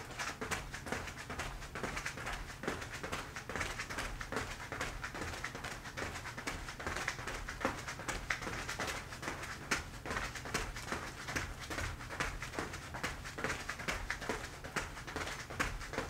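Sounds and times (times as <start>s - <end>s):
footsteps on foam mat: 0.0s - 16.0s.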